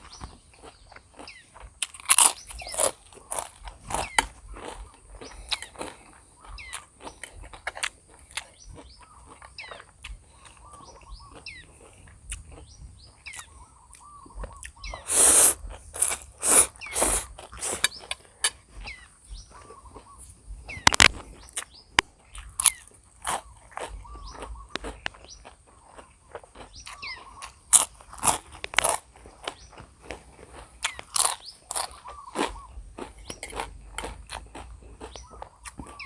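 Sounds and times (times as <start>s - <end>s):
person chewing noodles: 0.0s - 36.0s
small birds chirping: 0.0s - 36.0s.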